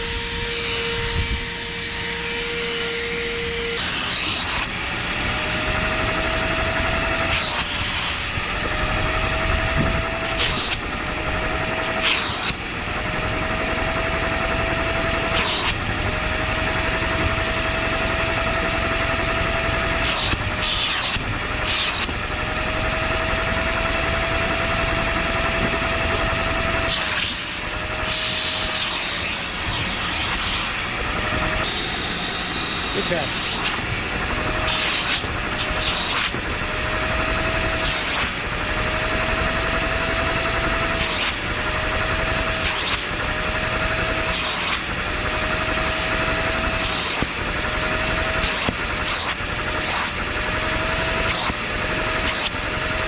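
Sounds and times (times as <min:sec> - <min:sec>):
motor running: 0:00.0 - 0:53.0.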